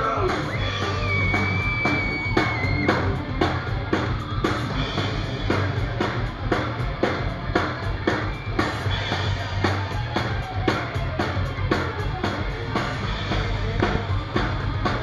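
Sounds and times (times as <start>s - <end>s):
bass guitar: 0.0s - 15.0s
distorted electric guitars: 0.0s - 15.0s
drum kit: 0.0s - 15.0s.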